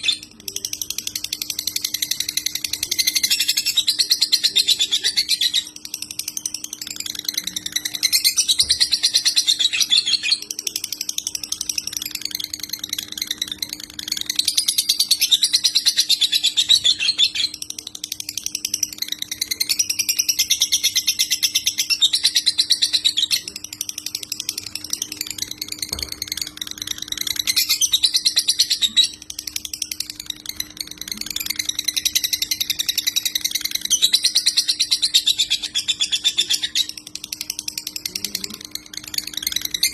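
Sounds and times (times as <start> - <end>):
bird chattering trills: 0.0 - 39.9
faint low hum: 0.0 - 39.9.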